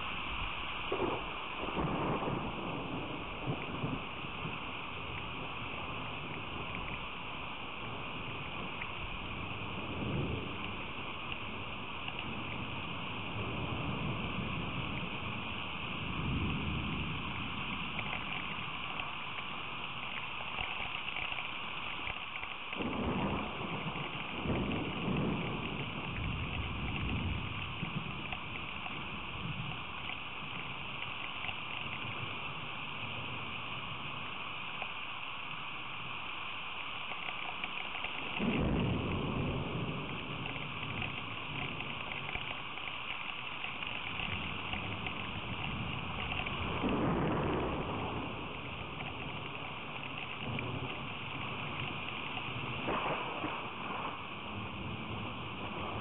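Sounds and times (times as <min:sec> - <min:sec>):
thunder rumbling: 0:00.0 - 0:34.8, 0:37.3 - 0:56.0
heavy rain: 0:00.0 - 0:56.0.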